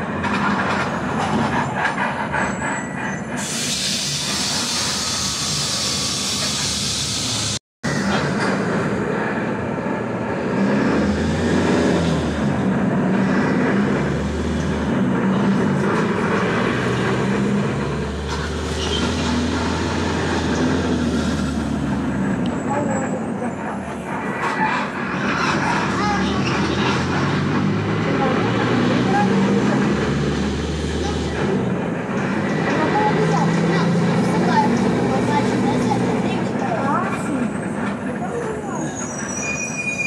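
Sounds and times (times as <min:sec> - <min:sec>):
vehicle hum and rattle: 0:00.0 - 0:05.2, 0:06.2 - 0:38.8.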